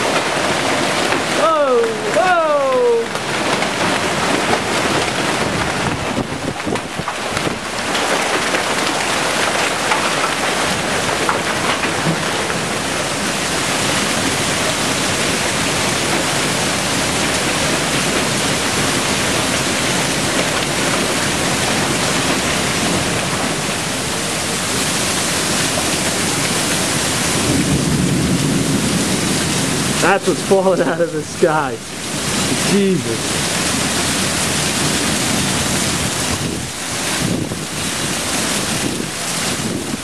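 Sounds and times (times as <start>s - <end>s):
hailstones pelting down: 0.0s - 40.0s.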